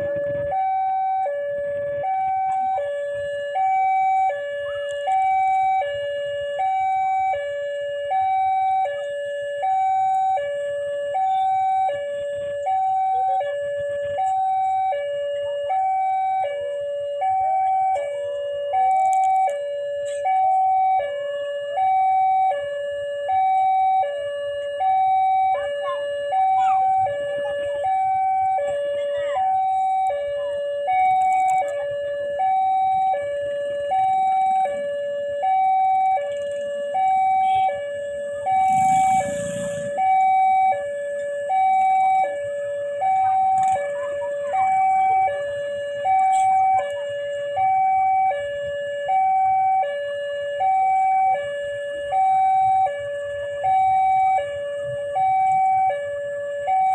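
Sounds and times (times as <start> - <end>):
level crossing two-tone alarm: 0.0 - 56.9.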